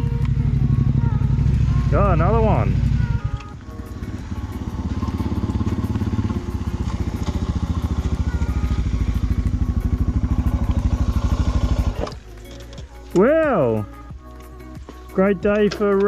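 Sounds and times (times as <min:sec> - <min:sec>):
motorcycle engine pulsing: 0:00.0 - 0:14.3.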